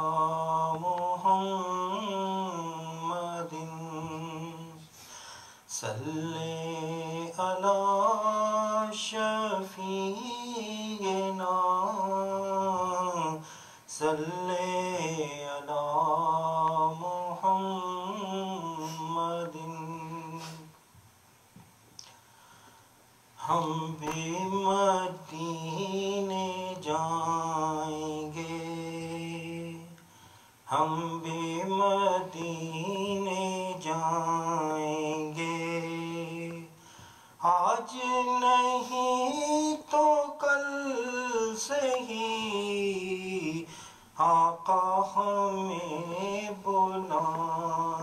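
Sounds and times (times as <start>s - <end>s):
man singing unaccompanied: 0.0s - 5.0s, 5.7s - 20.8s, 23.4s - 48.0s.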